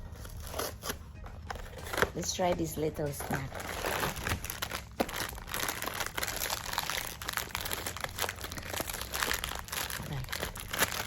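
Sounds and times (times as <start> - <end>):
plastic packaging crinkling: 0.1 - 11.0.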